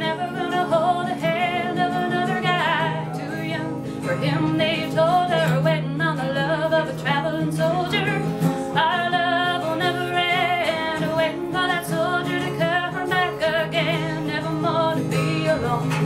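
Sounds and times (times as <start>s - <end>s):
person singing with vibrato: 0.0s - 16.0s
strummed acoustic guitar: 0.0s - 16.0s.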